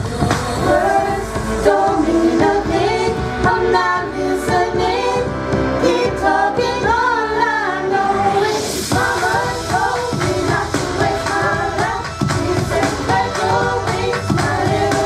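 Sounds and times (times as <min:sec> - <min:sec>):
instrumental backing with beat: 0:00.0 - 0:15.0
singers performing pop song: 0:00.0 - 0:15.0.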